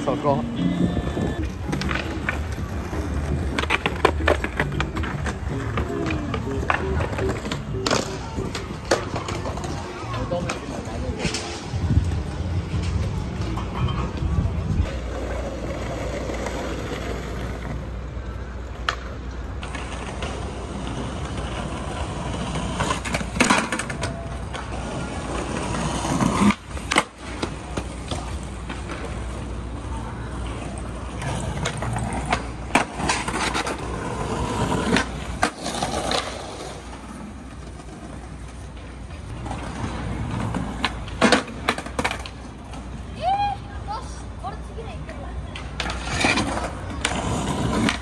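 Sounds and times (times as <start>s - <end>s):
skateboards rolling on stone: 0.0s - 48.0s
skateboard clacks and impacts: 1.2s - 17.6s, 18.6s - 42.8s, 45.5s - 48.0s.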